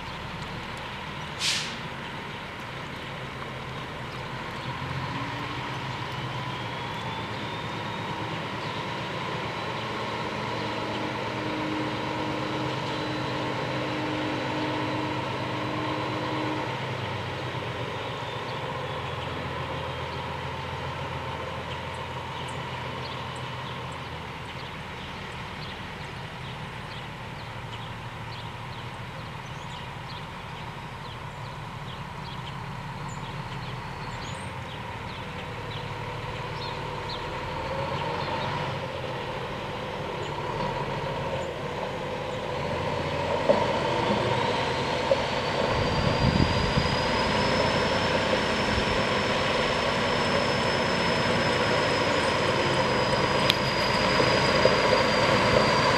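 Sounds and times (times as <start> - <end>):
diesel truck engine driving past: 0.0 - 55.9.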